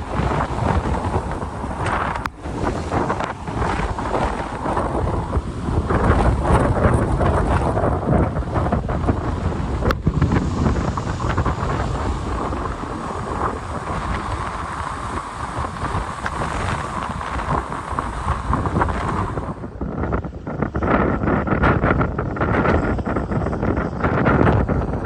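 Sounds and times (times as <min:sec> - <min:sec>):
rough sea surf: 0:00.0 - 0:25.0
storm wind buffeting microphone: 0:00.0 - 0:25.0.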